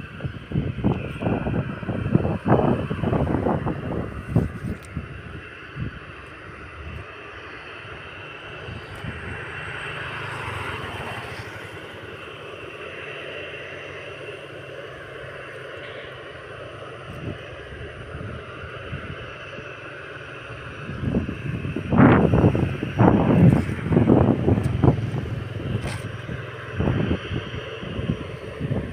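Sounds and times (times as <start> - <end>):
distant jet engines rumbling: 0.0 - 28.9.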